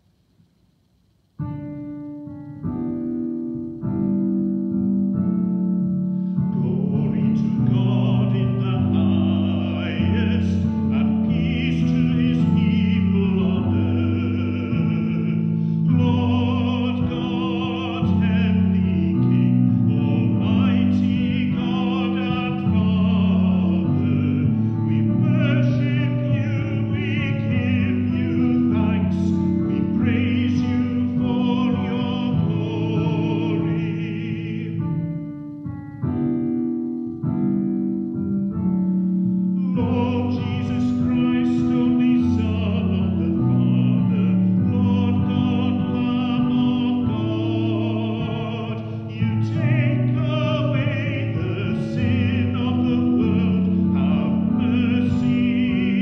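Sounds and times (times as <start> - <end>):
keyboard chords: 0.0 - 56.0
person singing with vibrato: 6.1 - 35.6, 38.6 - 56.0.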